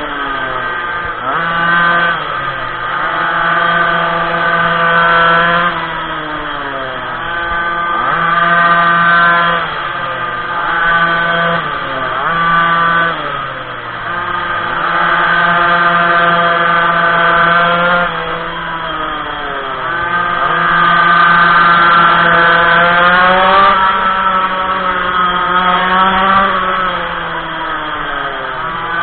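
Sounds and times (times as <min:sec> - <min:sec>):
small two-stroke engine revving: 0:00.0 - 0:29.0.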